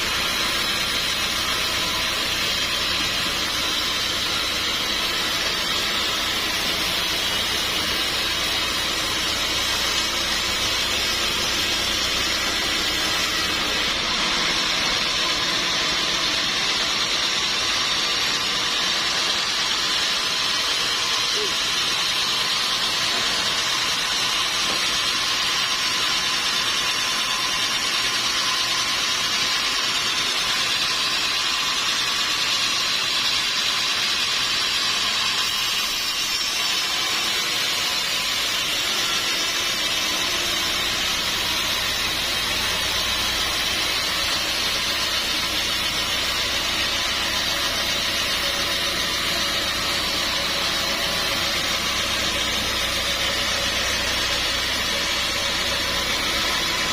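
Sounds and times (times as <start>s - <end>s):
sawmill machinery hissing: 0.0s - 56.9s.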